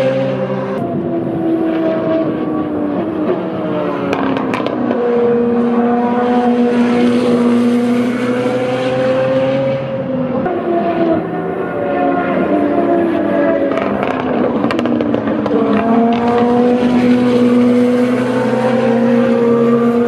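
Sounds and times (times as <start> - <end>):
racing car engine: 0.0 - 20.0.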